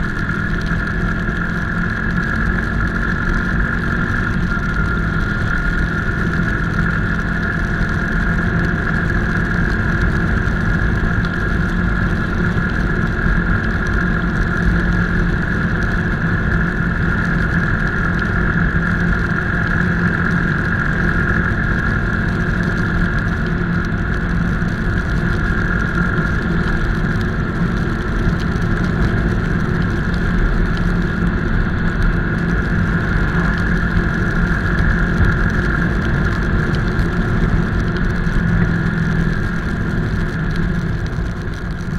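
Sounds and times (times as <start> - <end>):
motorcycle engine droning: 0.0 - 41.9.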